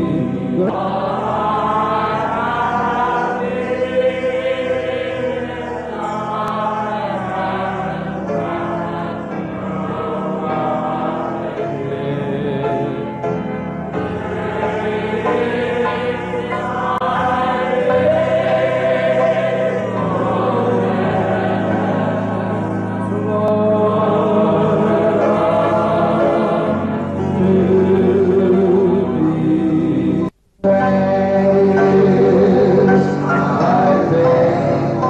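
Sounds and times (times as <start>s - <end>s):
congregation singing: 0.0s - 35.0s.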